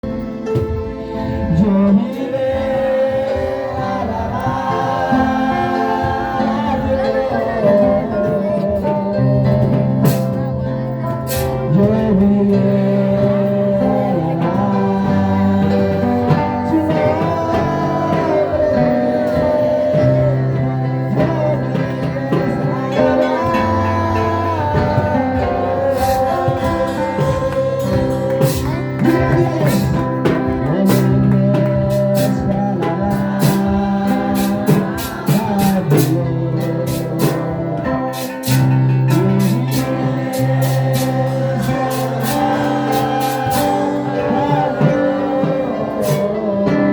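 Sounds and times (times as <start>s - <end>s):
drum beat: 0.0s - 46.9s
guitar: 0.0s - 46.9s
person singing: 0.0s - 46.9s
steady bass line: 0.0s - 46.9s.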